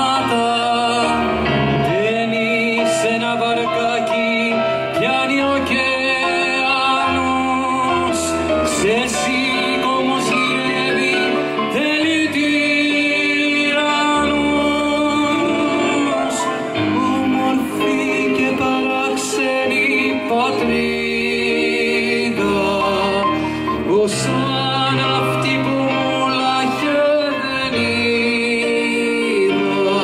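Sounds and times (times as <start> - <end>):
man singing: 0.0 - 30.0
sustained keyboard accompaniment: 0.0 - 30.0.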